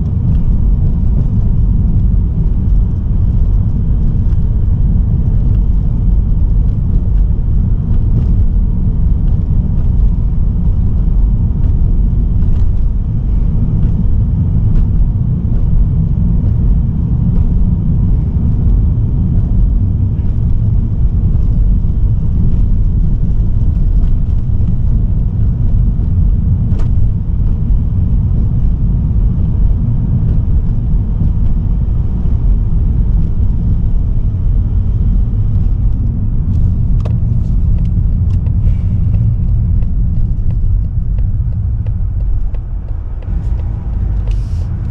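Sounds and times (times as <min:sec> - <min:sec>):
car interior rumble: 0:00.0 - 0:44.9
tyre and road noise: 0:00.0 - 0:44.9.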